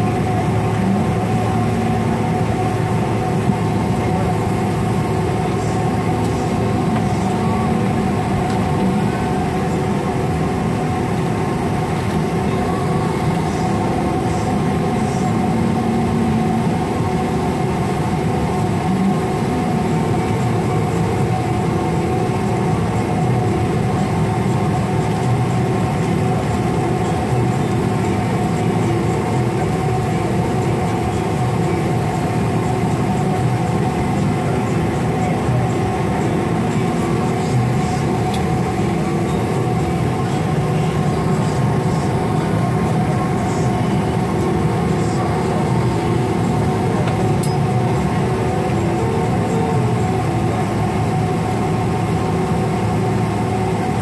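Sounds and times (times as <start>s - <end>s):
jet engines idling rumble: 0.0s - 54.0s
steady whining tones: 0.0s - 54.0s.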